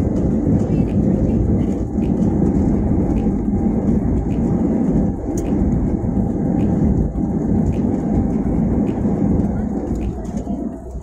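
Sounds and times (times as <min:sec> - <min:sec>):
jet engine and wheel rumble: 0:00.0 - 0:11.0.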